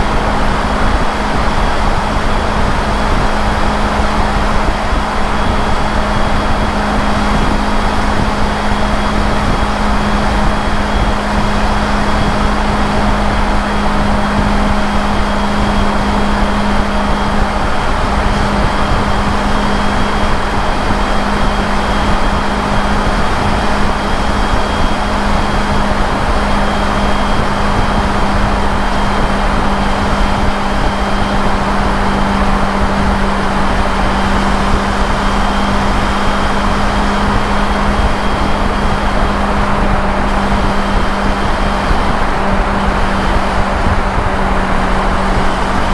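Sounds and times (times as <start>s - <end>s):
motorcycle engine hum: 0.0s - 45.9s
wind and road noise: 0.0s - 45.9s.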